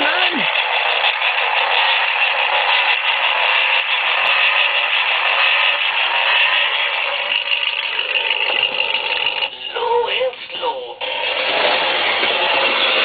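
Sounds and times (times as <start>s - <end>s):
toy car being shaken: 0.0s - 13.0s.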